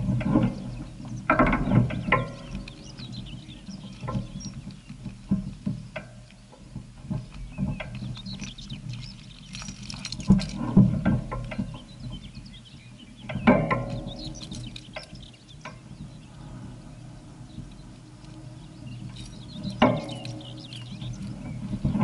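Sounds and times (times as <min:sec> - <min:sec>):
bike and camera mount rattling: 0:00.0 - 0:12.6, 0:13.3 - 0:16.2, 0:17.5 - 0:22.0
steady low hum: 0:00.0 - 0:22.0.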